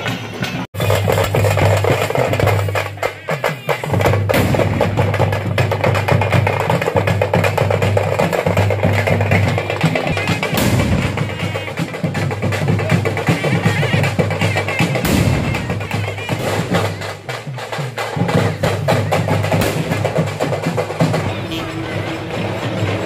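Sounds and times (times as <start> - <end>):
frame drums beaten with sticks: 0.4 - 23.0.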